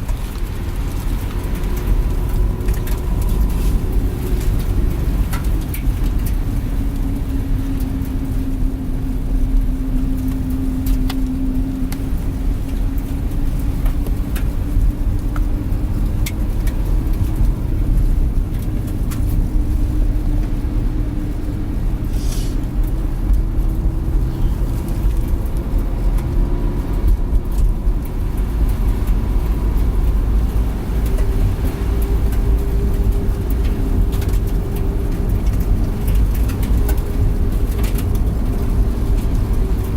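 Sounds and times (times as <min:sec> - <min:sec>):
van engine and road rumble: 0:00.0 - 0:39.9.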